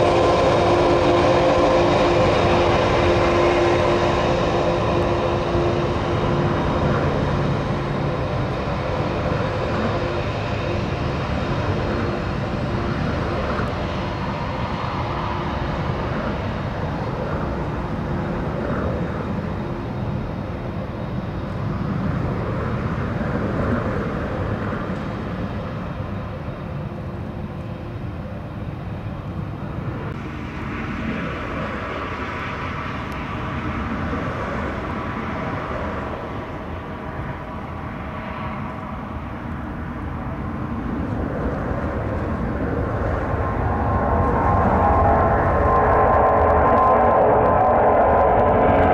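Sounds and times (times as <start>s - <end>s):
jet engine noise: 0.0s - 48.9s.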